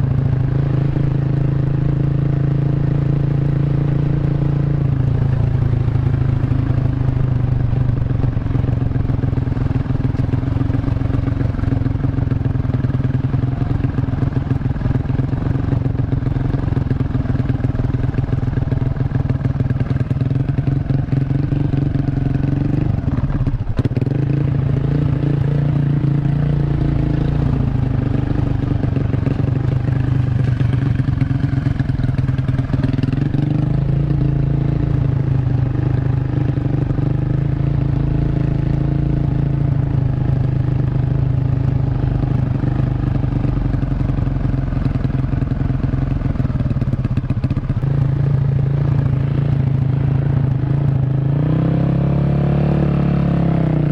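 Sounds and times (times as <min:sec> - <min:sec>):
motorcycle engine riding: 0:00.0 - 0:53.9.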